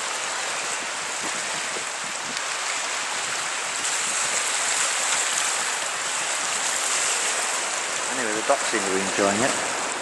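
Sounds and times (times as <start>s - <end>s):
flood water rushing: 0.0s - 10.0s.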